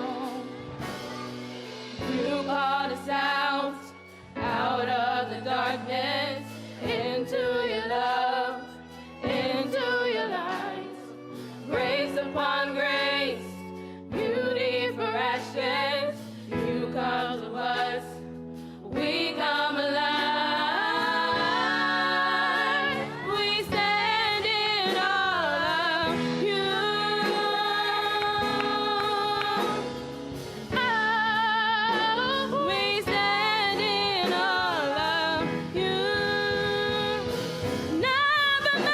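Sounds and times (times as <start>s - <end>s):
gospel singing: 0.0s - 38.9s
instrumental accompaniment: 0.0s - 38.9s.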